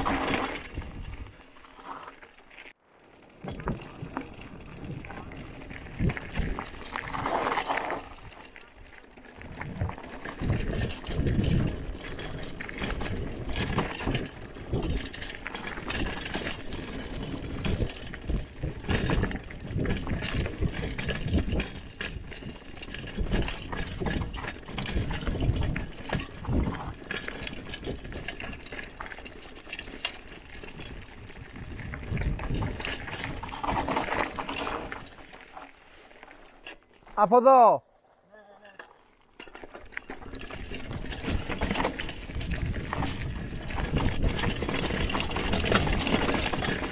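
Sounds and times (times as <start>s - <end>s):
bike knocking and rattling: 0.0s - 37.2s, 38.7s - 46.9s
bike tyres on dirt and stones: 0.0s - 46.9s.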